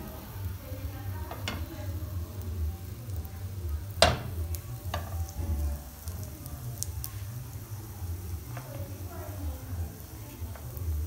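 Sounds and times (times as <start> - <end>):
pancake batter sizzling: 0.0 - 11.0.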